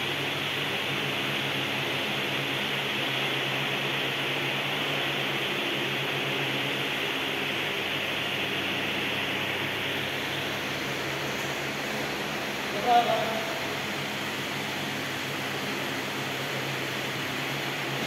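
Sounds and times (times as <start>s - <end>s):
fan-like hiss: 0.0s - 18.0s
low machinery hum: 0.0s - 18.0s.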